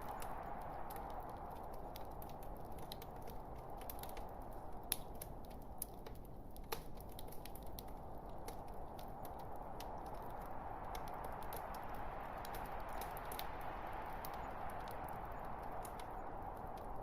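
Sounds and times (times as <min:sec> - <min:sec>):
crackles and pops from logs: 0:00.0 - 0:17.0.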